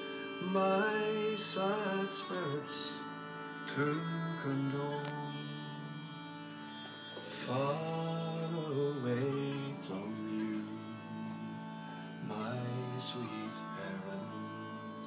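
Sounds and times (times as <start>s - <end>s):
folk melody: 0.0s - 15.0s
steady low drone: 0.0s - 15.0s.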